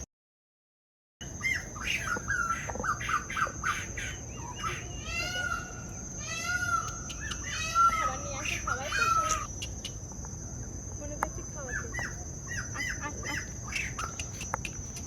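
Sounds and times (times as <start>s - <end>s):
birds chirping and calling: 1.2s - 15.0s.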